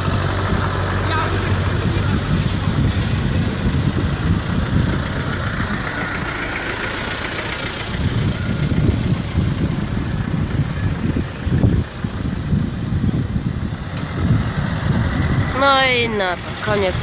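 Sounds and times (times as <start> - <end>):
low engine rumble: 0.0 - 17.0
tyre noise on asphalt: 0.0 - 17.0.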